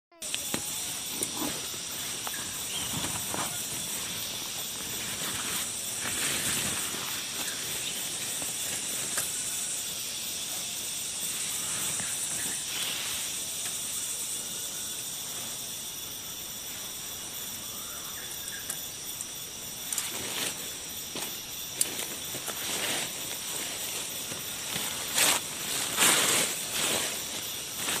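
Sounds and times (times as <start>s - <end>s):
insect chorus drone: 0.1s - 28.0s.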